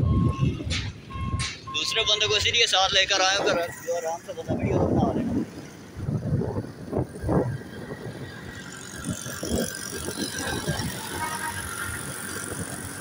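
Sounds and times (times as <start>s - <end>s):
motorcycle engine and road noise: 0.0s - 13.0s
wind buffeting microphone: 0.0s - 13.0s.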